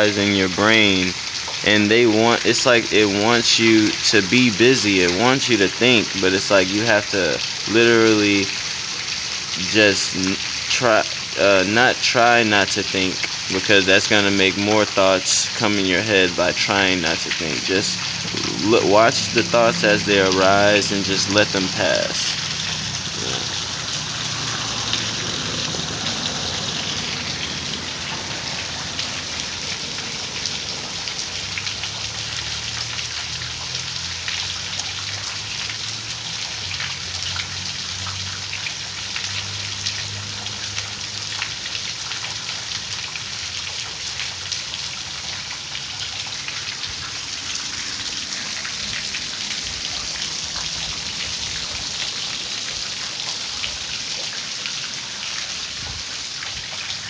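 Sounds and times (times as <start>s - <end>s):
raindrops pattering: 0.0s - 57.0s.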